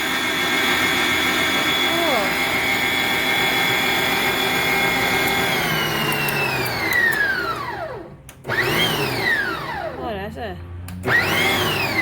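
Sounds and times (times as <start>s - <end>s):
stand mixer motor whining: 0.0s - 10.1s, 10.9s - 12.0s.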